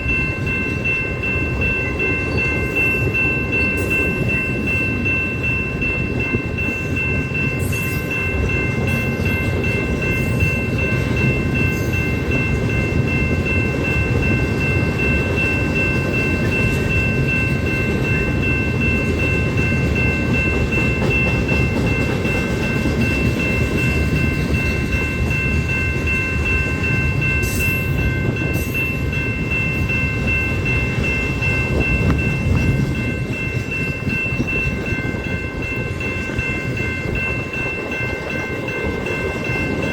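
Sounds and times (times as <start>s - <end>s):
freight train wheels rumbling on rail: 0.0s - 39.9s
high-pitched ringing tone: 0.0s - 39.9s.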